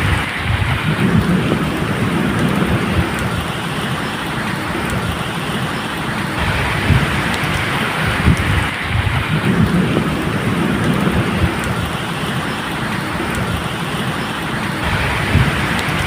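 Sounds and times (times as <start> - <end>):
low thunder rumbling: 0.0 - 16.0
steady rain falling: 0.0 - 16.0.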